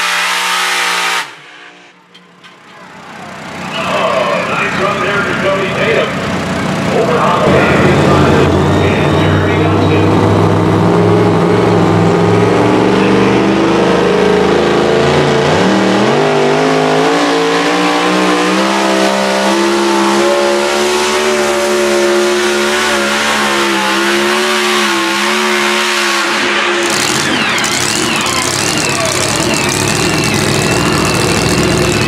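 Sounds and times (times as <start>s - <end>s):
truck engine revving: 0.0s - 32.0s.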